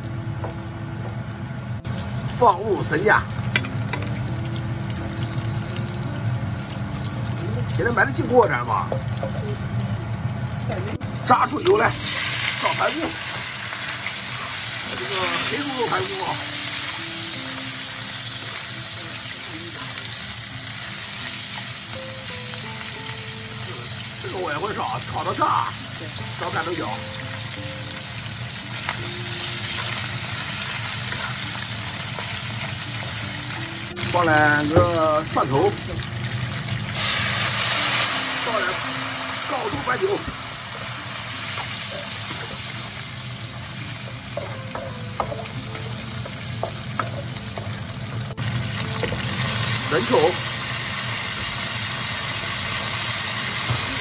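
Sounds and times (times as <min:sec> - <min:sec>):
meat sizzling in a wok: 0:00.0 - 0:54.0.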